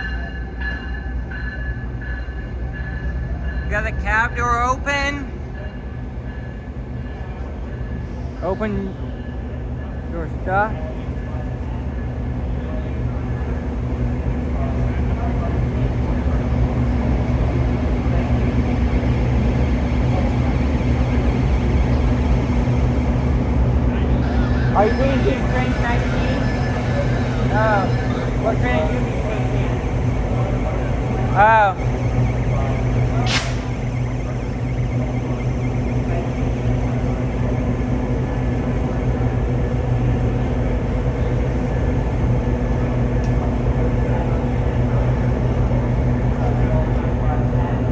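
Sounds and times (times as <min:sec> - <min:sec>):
diesel locomotive engine idling: 0:00.0 - 0:47.9.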